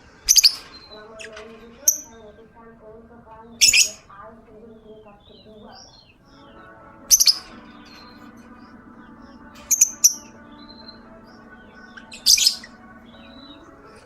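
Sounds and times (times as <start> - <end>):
birds chirping shrilly: 0.0 - 14.0
faint bird twittering: 0.0 - 14.0.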